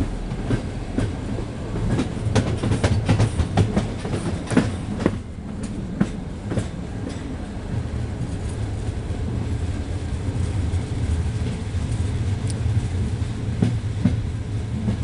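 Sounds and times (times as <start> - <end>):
train wheels clattering over rails: 0.0 - 15.0.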